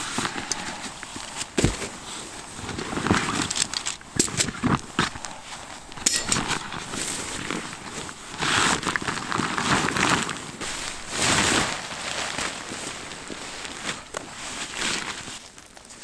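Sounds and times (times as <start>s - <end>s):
nylon tent fabric rustling: 0.0s - 16.0s.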